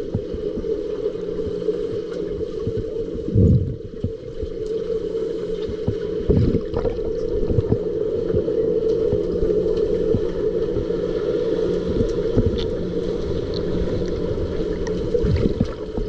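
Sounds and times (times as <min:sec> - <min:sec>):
low rumbling bursts: 0:00.0 - 0:16.0
underwater low hum: 0:00.0 - 0:16.0.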